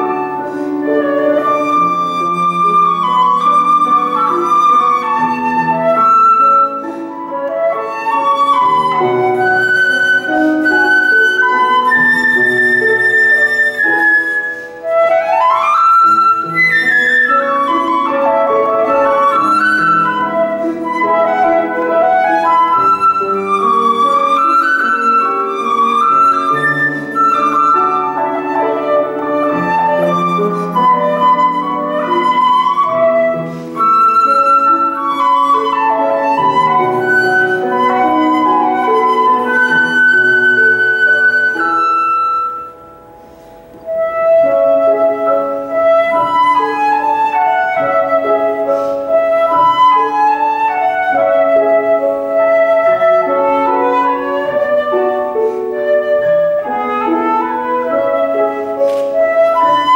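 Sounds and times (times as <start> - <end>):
flute melody: 0.0 - 59.9
piano accompaniment: 0.0 - 59.9.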